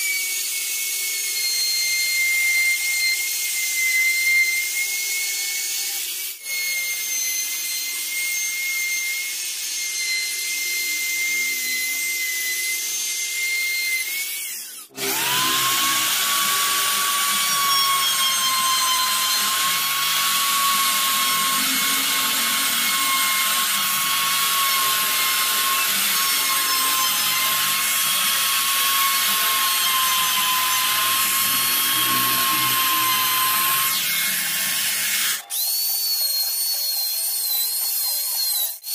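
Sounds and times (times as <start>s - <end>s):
trim router cutting wood: 0.0s - 38.9s.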